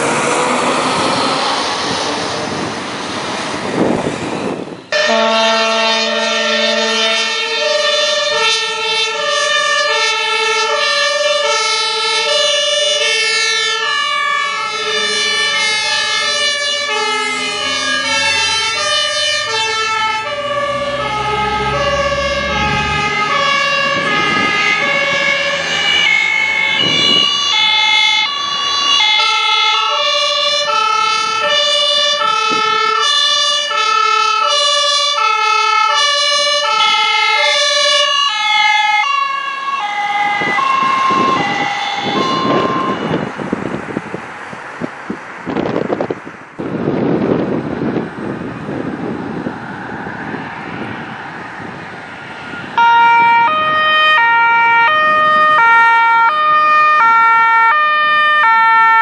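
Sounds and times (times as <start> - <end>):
two-tone emergency sirens: 0.0 - 44.2, 45.5 - 59.0
truck engine rumble: 0.0 - 59.0.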